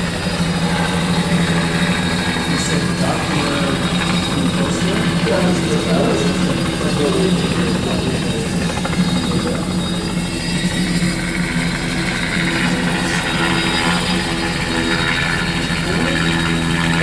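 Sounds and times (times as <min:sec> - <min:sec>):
helicopter engine hum: 0:00.0 - 0:17.0
helicopter rotor beat: 0:00.0 - 0:17.0.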